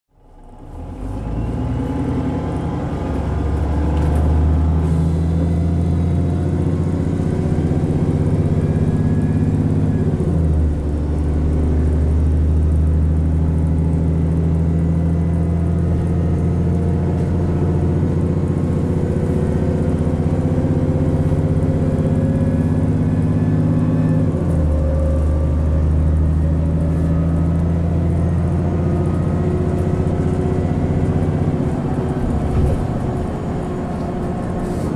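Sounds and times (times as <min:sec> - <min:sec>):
bus diesel engine accelerating: 0:00.1 - 0:34.9.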